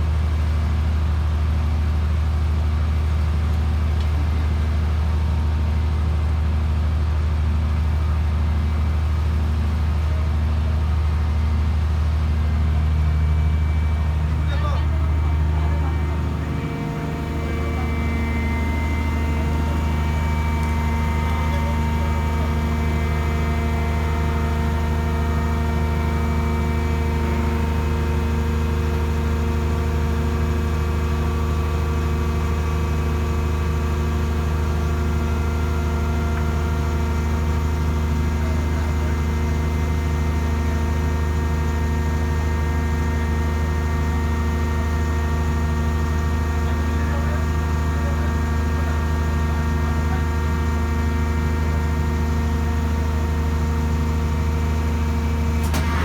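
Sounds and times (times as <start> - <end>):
machine engine drone: 7.8 - 56.0.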